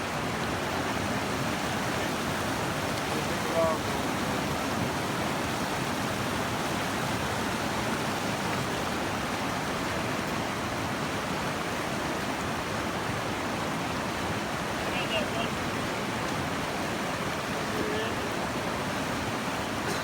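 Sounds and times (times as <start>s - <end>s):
flood water rushing down creek: 0.0s - 20.0s.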